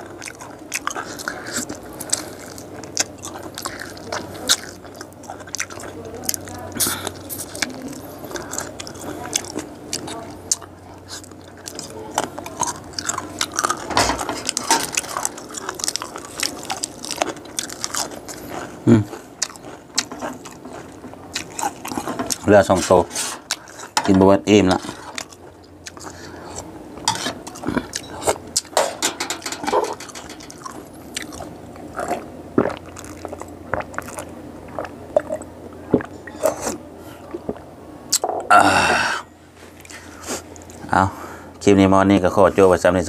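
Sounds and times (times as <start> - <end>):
chewing and crunching bones: 0.0 - 38.5, 39.7 - 41.0.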